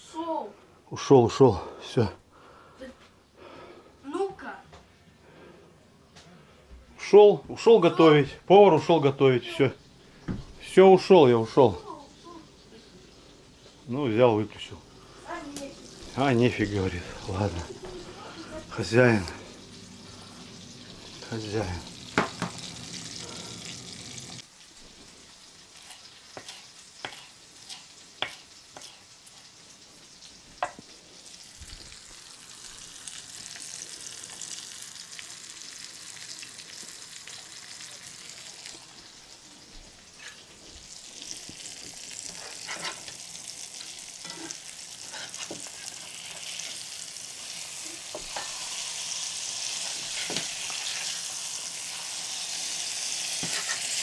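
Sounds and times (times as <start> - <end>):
food sizzling in hot oil: 10.6 - 54.0.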